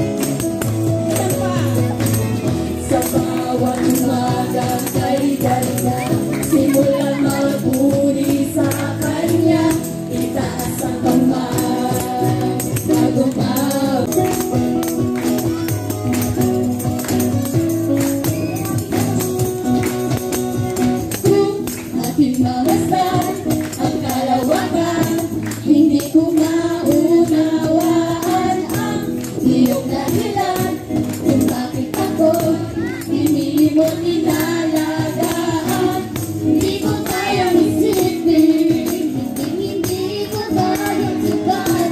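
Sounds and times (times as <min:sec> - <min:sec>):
acoustic guitars: 0:00.0 - 0:41.9
keyboard: 0:00.0 - 0:41.9
percussion steady beat: 0:00.0 - 0:41.9
voices singing together: 0:01.1 - 0:14.4, 0:19.2 - 0:41.9.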